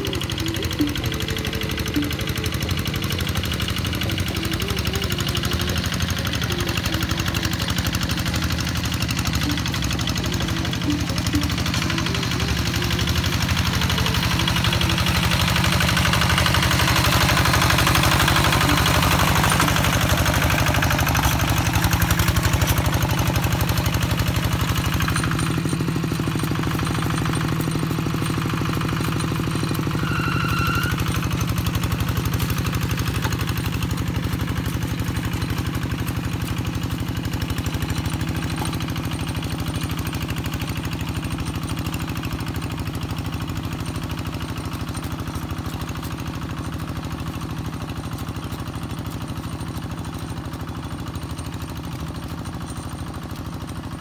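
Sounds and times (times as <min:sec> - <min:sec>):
diesel tractor engine knocking: 0:00.0 - 0:54.0.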